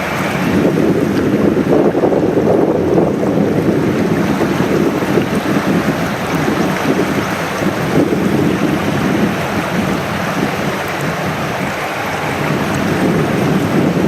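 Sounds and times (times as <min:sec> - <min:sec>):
mountain stream water rushing: 0:00.0 - 0:14.0.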